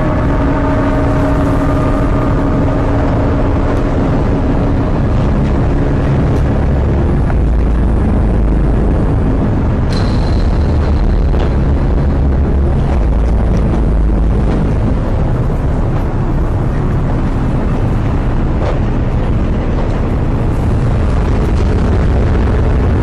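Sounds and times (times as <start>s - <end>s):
storm wind blowing on microphone: 0.0s - 23.0s.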